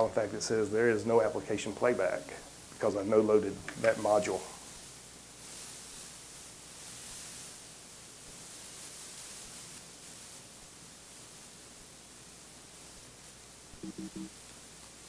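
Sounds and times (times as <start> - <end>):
room tone hiss: 0.0 - 15.0.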